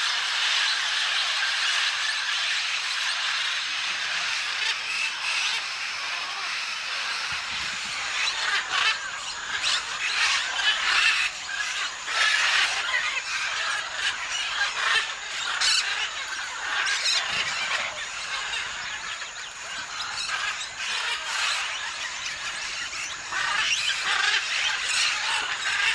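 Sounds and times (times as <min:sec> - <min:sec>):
parrots calling: 0:00.0 - 0:25.9.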